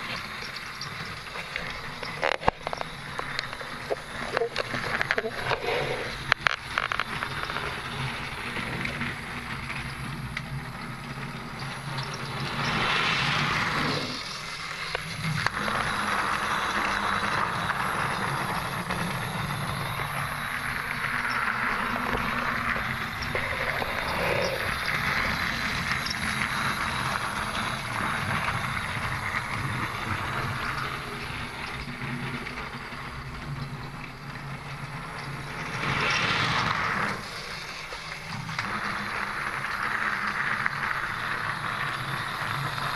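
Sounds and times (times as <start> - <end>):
toy train motor whirring: 0.0 - 42.9
toy train wheels rattling on track: 0.0 - 42.9.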